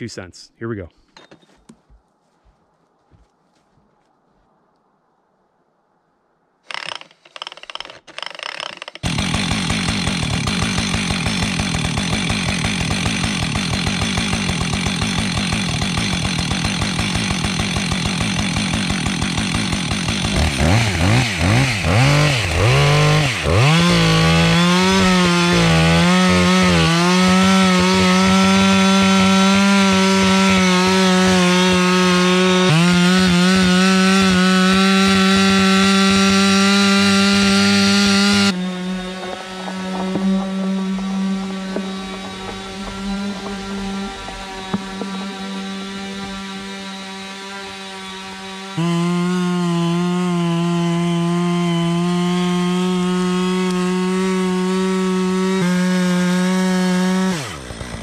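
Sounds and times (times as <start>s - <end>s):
chainsaw engine revving: 6.7s - 58.0s.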